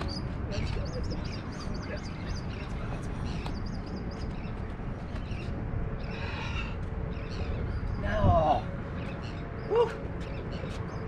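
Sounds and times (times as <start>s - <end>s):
small birds chirping: 0.0s - 11.0s
wind rumble on microphone: 0.0s - 11.0s.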